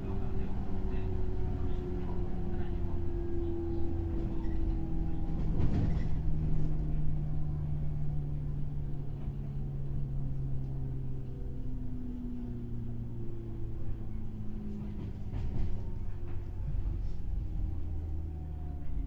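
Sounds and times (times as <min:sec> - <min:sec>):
train motor and gear hum: 0:00.0 - 0:19.0
train rolling rumble: 0:00.0 - 0:19.0.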